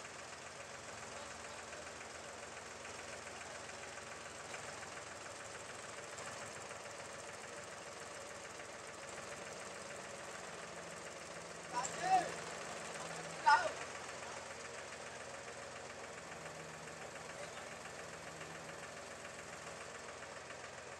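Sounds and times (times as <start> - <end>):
tractor diesel engine clattering: 0.0 - 20.9.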